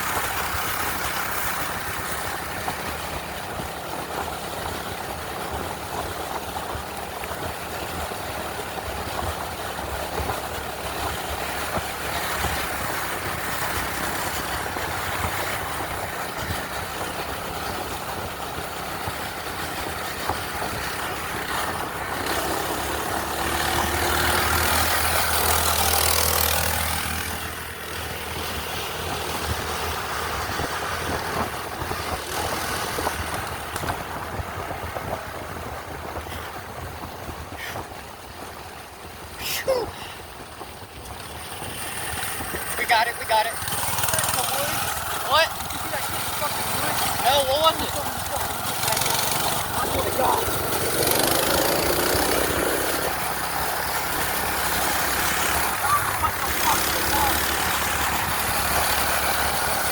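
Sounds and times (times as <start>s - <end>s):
constant rushing noise: 0.0s - 59.9s
small gas engine running: 0.0s - 59.9s.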